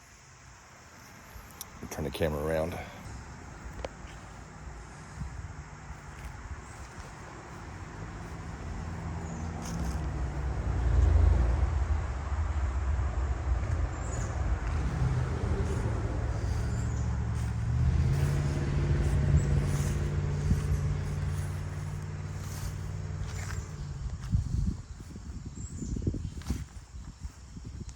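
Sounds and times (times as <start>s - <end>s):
vehicle engine hum: 0.0s - 27.7s
road traffic rumble: 0.0s - 27.9s.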